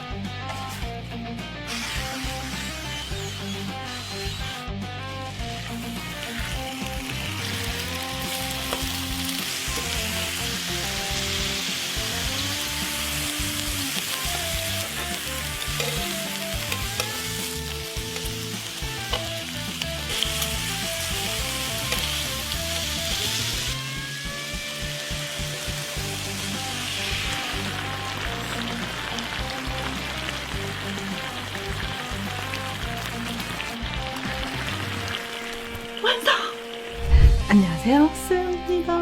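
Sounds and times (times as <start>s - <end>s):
soft background melody: 0.0s - 39.0s
food sizzling in a pan: 1.6s - 4.6s, 5.2s - 37.2s.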